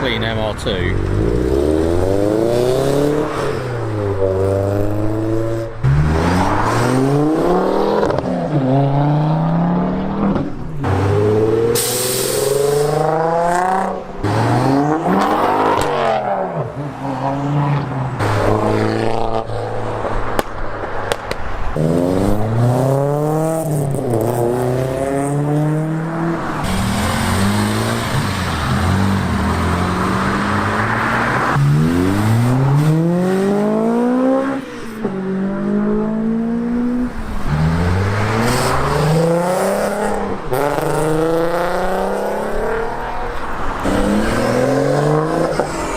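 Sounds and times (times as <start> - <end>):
cars accelerating past: 0.0 - 45.9.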